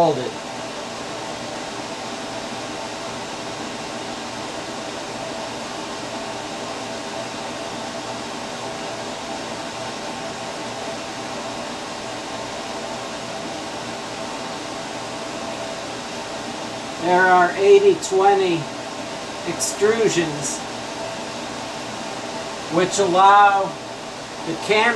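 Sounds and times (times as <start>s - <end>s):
faint hum: 0.0s - 24.9s
fan whirring: 0.0s - 24.9s.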